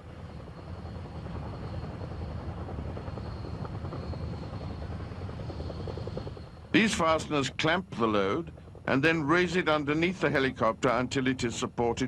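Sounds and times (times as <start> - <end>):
helicopter rotor and engine: 0.0 - 12.0
high turbine whine: 0.0 - 12.0.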